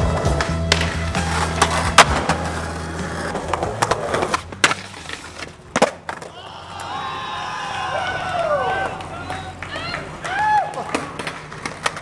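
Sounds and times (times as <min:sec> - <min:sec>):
skateboard clacks and slaps: 0:00.0 - 0:07.1, 0:08.2 - 0:12.0
skateboard wheels rolling: 0:00.0 - 0:12.0.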